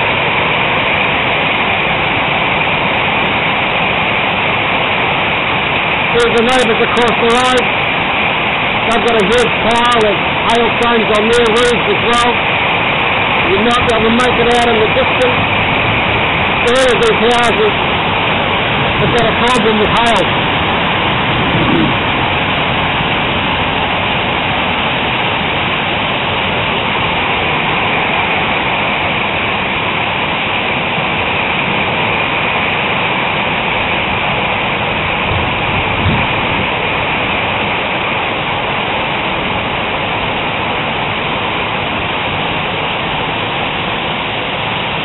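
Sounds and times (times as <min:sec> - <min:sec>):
hail and rain pelting down: 0:00.0 - 0:28.7, 0:30.6 - 0:44.4.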